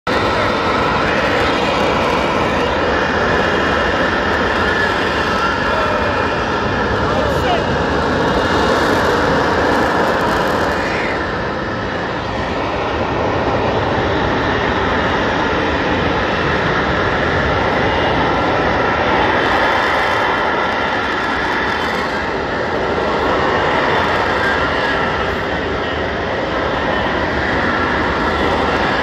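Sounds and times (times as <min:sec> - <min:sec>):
fighter jet hovering: 0:00.1 - 0:29.0.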